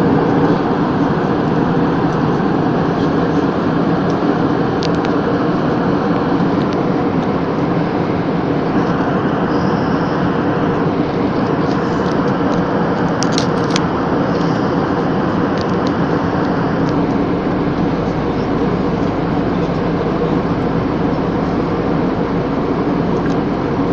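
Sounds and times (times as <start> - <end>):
airplane cabin drone: 0.0 - 23.9.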